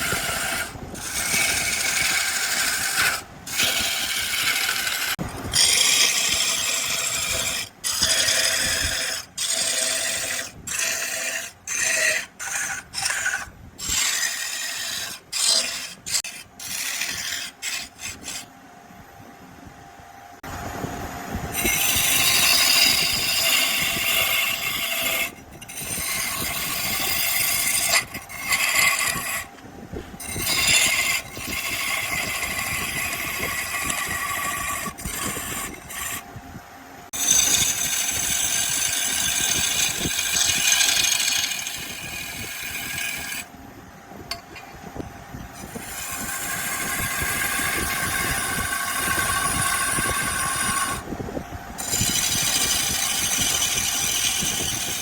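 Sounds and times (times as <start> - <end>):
turning tool scraping wood: 0.0 - 18.5, 21.5 - 36.3, 37.1 - 43.5, 45.5 - 51.1, 51.8 - 55.0
wood lathe running: 0.0 - 18.5, 21.5 - 29.6, 30.2 - 36.2, 37.1 - 43.5, 45.6 - 51.1, 51.8 - 55.0.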